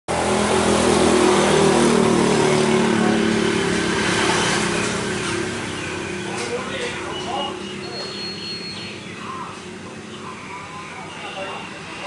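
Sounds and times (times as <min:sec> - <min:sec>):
engine running: 0:00.1 - 0:12.0.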